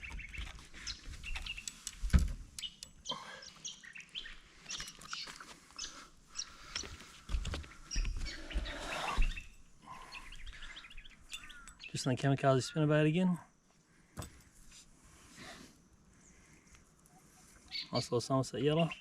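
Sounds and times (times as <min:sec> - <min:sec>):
birds chirping: 0:00.0 - 0:14.5, 0:15.2 - 0:19.0.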